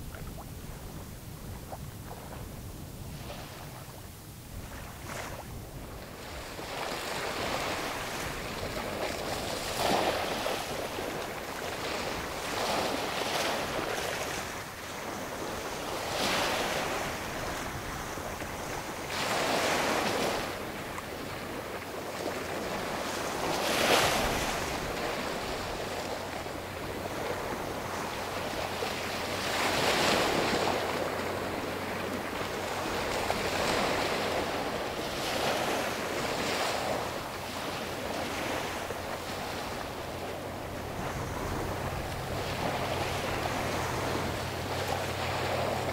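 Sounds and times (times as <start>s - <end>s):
small waves washing ashore: 0.0s - 45.9s
wind buffeting microphone: 0.0s - 45.9s.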